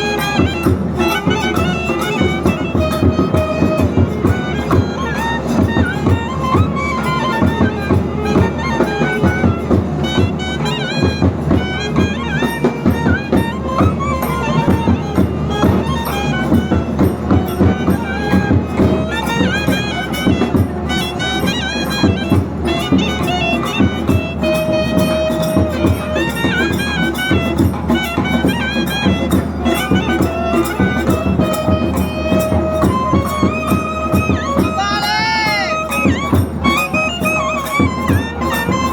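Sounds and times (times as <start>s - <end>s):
double-reed gliding melody: 0.0s - 38.9s
fast drumming: 0.0s - 38.9s.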